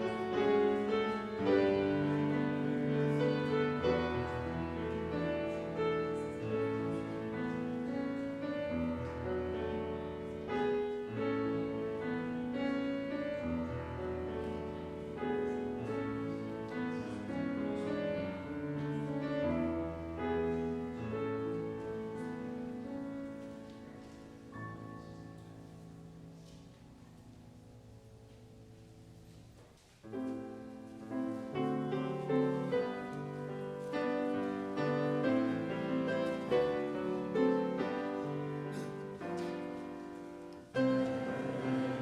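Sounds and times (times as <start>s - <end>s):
slow piano chords: 0.0s - 42.0s.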